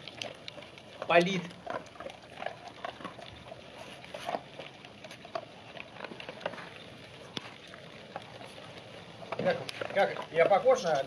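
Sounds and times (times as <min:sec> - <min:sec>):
dogs crunching dry kibble: 0:00.0 - 0:11.0.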